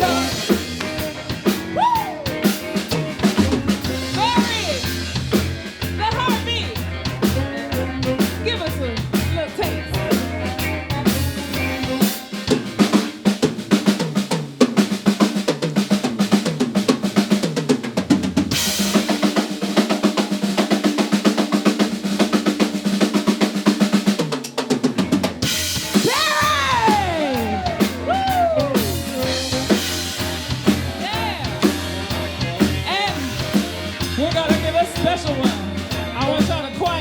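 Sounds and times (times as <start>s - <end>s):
drum kit solo: 0.0s - 37.0s.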